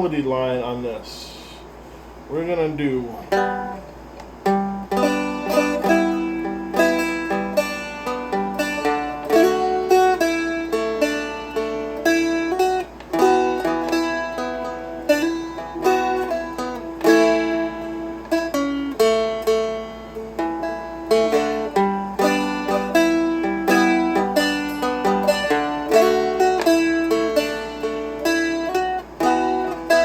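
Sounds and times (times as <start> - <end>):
light strums: 0.0 - 30.0
plucked string instrument melody: 3.2 - 30.0.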